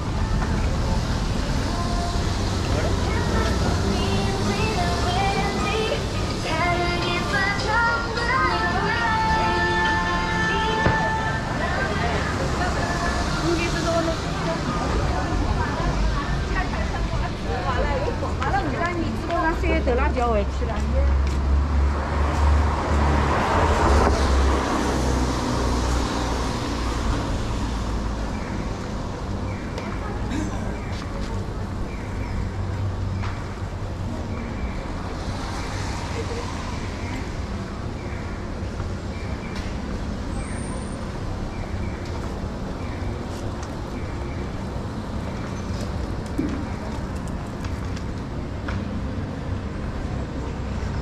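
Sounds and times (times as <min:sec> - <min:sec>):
low traffic rumble: 0:00.0 - 0:51.0.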